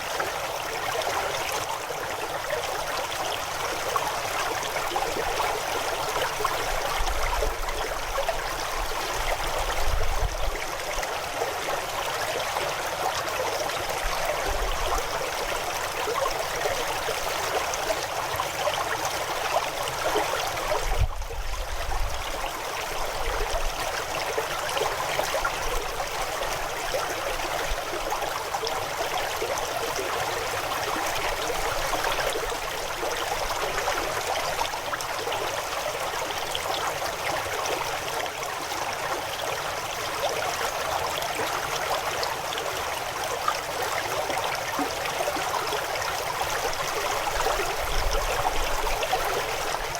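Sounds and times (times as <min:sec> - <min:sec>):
river water running over stones: 0:00.0 - 0:49.9.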